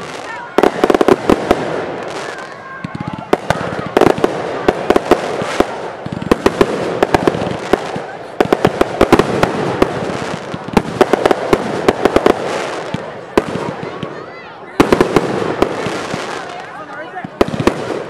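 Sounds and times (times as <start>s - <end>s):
fireworks bangs: 0.0s - 18.0s
fireworks crackle: 0.0s - 18.0s.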